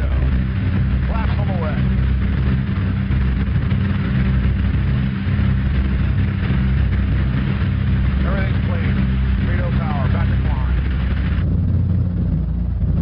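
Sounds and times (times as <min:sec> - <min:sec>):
bomber piston engines droning: 0:00.0 - 0:13.0.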